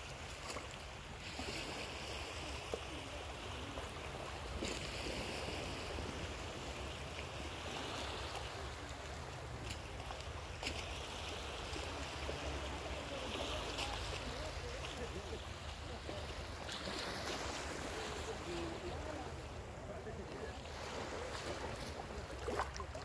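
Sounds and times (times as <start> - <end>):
small waves lapping: 0.0 - 23.0.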